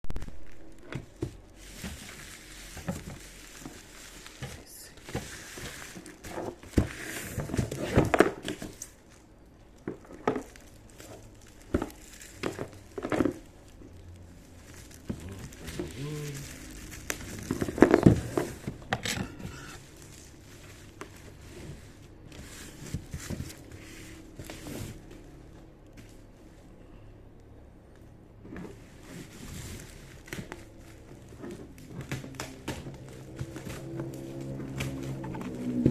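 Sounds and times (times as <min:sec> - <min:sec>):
packaging crinkling and rustling: 0:00.1 - 0:26.3, 0:28.7 - 0:35.9.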